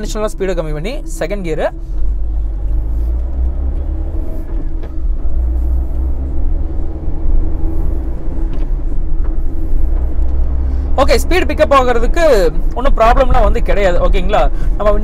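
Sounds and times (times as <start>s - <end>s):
minivan engine accelerating: 0.0s - 15.0s.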